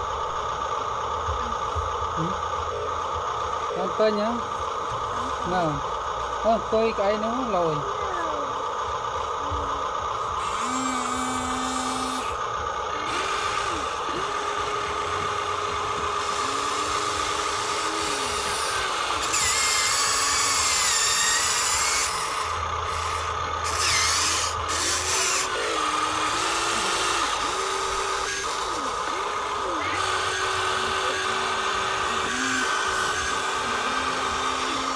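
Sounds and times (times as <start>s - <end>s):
small electric gear motors whirring: 0.0s - 34.9s
steady whine: 0.0s - 34.9s.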